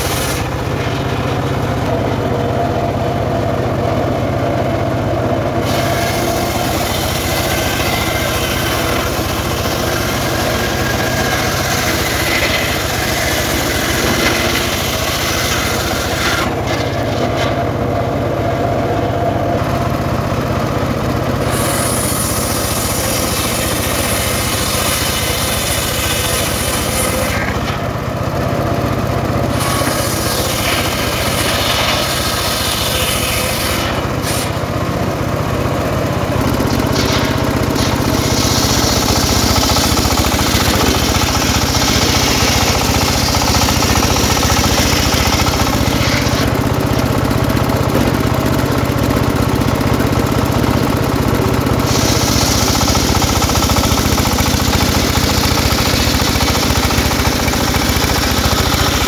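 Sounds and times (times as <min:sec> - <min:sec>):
saw blade ripping logs: 0:00.0 - 0:02.0, 0:05.6 - 0:18.0, 0:21.4 - 0:28.0, 0:29.4 - 0:35.0, 0:35.8 - 0:48.9, 0:50.7 - 0:59.0
sawmill engine running: 0:00.0 - 0:59.0.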